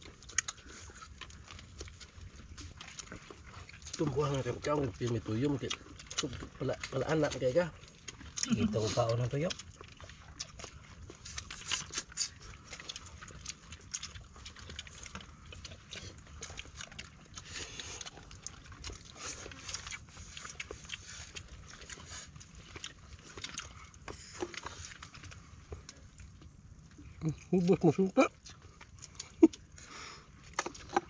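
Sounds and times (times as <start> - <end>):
low steady rumble: 0.0 - 31.0
people chewing and lip-smacking: 0.0 - 31.0
small clicks of food and fingers: 0.0 - 31.0.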